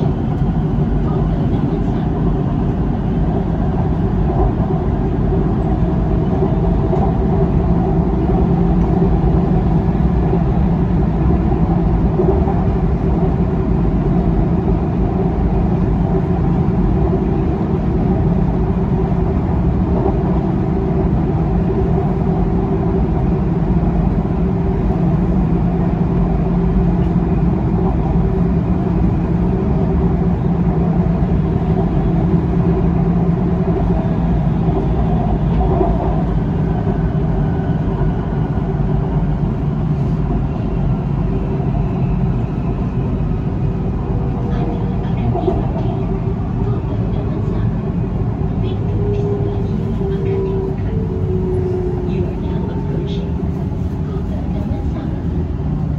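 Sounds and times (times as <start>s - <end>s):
train wheel-on-rail rumble: 0.0s - 55.9s.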